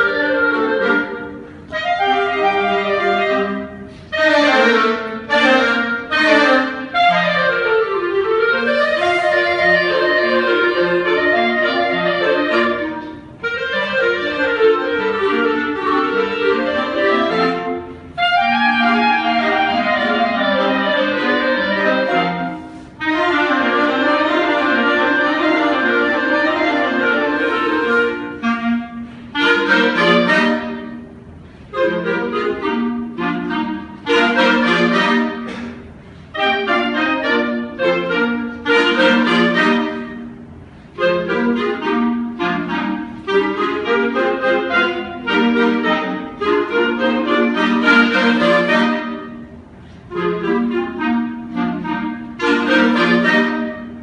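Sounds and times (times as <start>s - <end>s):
clarinet melody: 0.0s - 54.0s
orchestral ensemble: 0.0s - 54.0s.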